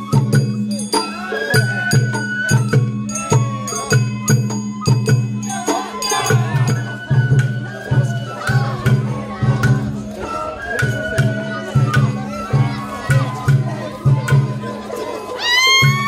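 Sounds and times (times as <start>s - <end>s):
low taiko drum beats: 0.0s - 15.0s, 15.6s - 16.0s
bamboo flute melody: 0.0s - 16.0s
sharp percussion strikes: 0.0s - 16.0s.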